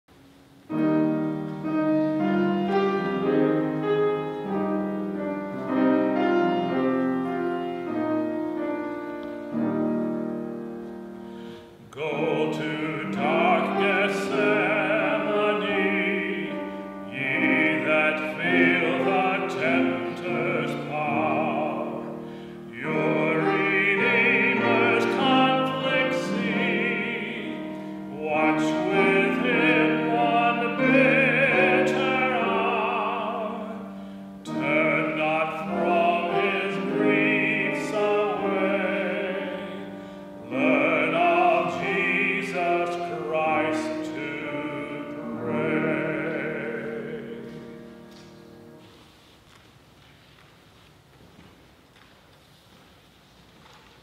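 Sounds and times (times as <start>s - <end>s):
piano playing: 0.1s - 49.2s
person singing classical style: 0.1s - 54.0s.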